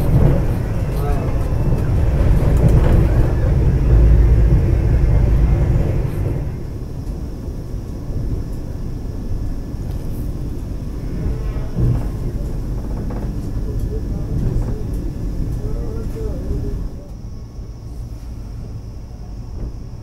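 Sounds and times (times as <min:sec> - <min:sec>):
train running low rumble: 0:00.0 - 0:20.0.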